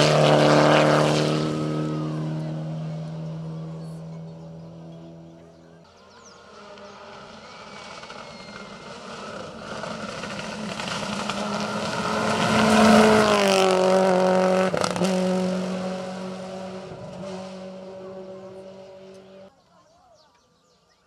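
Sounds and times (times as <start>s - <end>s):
rally car engine passing: 0.0s - 19.5s.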